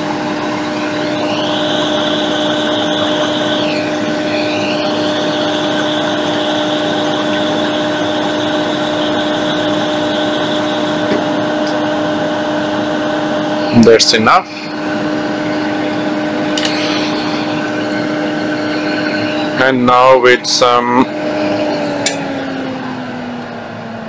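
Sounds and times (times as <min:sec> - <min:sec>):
fan whirring: 0:00.0 - 0:24.0
low hum: 0:00.0 - 0:24.0.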